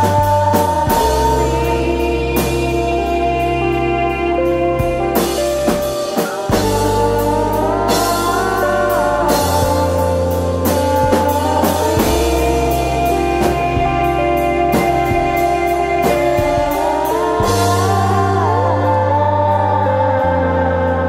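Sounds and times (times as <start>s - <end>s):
drum-kit beat: 0.0s - 18.6s
guitar chords: 0.0s - 21.0s.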